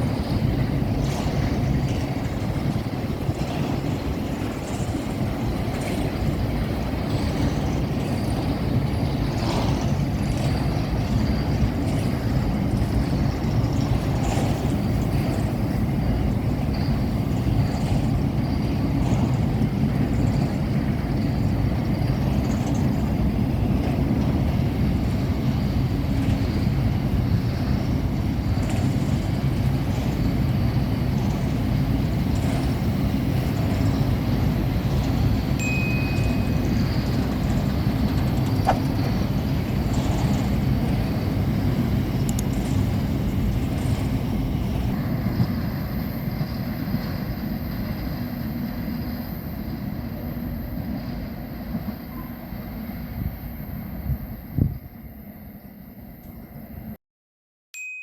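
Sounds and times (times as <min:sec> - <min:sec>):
wheels clicking on rails: 0:00.0 - 0:52.8
diesel locomotive rumble: 0:00.0 - 0:56.9.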